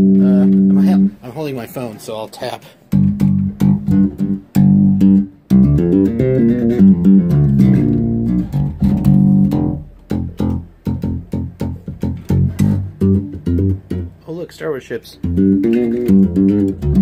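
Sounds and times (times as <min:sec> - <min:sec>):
electric bass through amp: 0:00.0 - 0:01.2, 0:02.9 - 0:14.2, 0:15.2 - 0:17.0.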